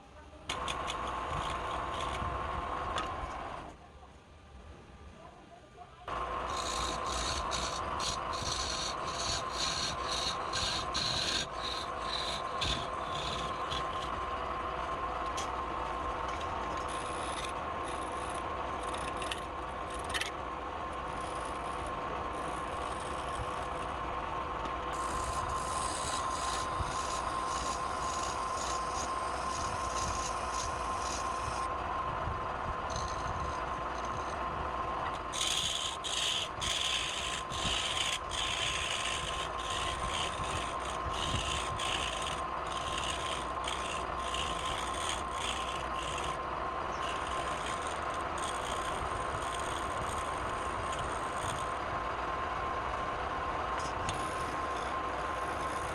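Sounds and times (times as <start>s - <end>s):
tool scraping spinning wood: 0.5s - 3.6s, 6.1s - 53.0s, 53.6s - 55.9s
wood lathe motor whine: 6.1s - 55.9s.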